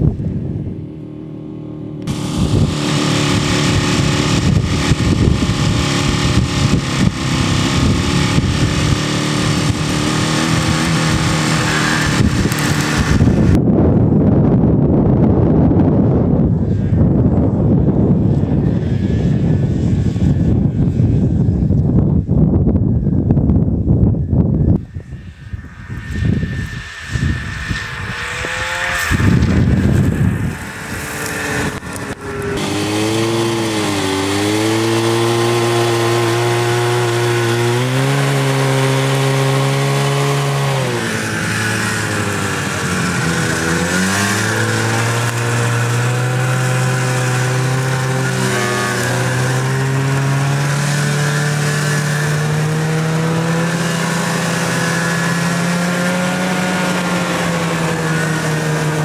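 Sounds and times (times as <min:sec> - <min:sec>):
loud rush of noise: 0:00.0 - 0:14.2, 0:24.8 - 0:59.0
snowmobile engine running: 0:00.0 - 0:59.0.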